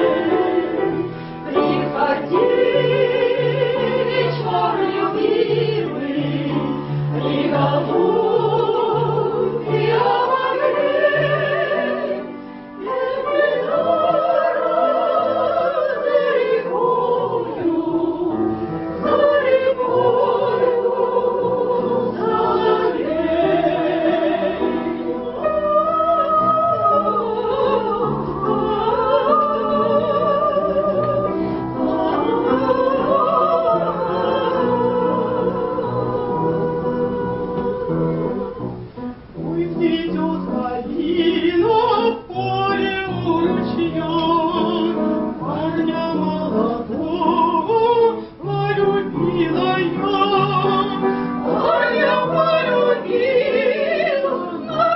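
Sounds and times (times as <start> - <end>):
classical voices singing: 0.0 - 54.9.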